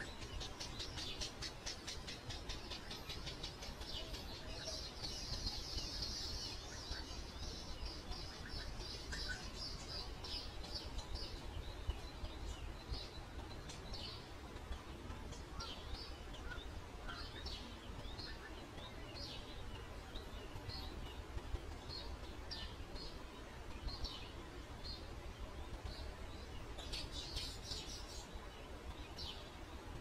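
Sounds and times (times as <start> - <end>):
birds chirping: 0.0 - 30.0
low background rumble: 0.0 - 30.0.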